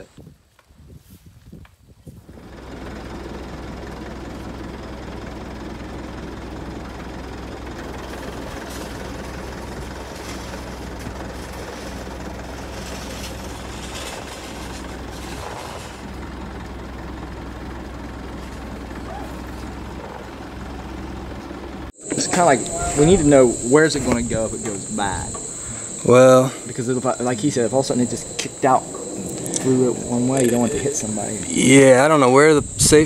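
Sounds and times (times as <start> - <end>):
loader engine idling: 2.3 - 33.0.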